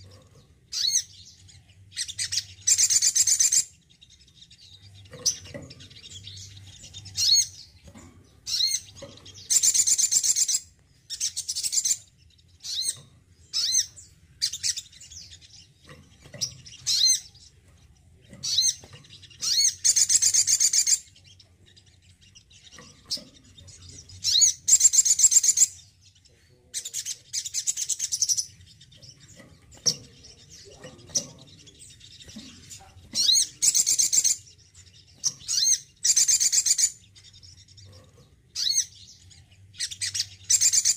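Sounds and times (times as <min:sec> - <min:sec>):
sunbird chirps and twittering: 0:00.0 - 0:40.9.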